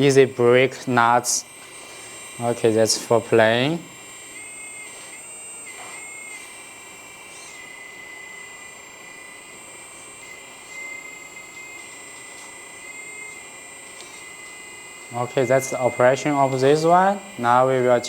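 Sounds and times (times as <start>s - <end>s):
hydraulic pump whining: 0.0s - 18.0s.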